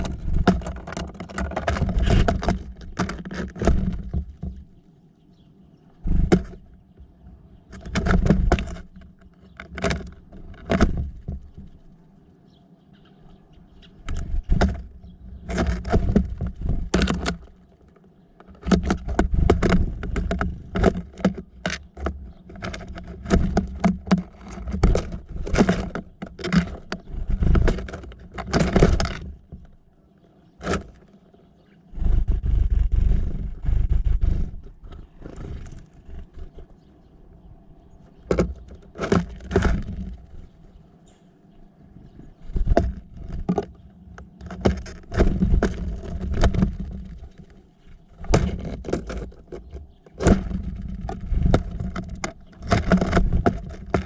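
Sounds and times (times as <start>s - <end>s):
birds pecking and scrabbling: 0.0s - 54.0s.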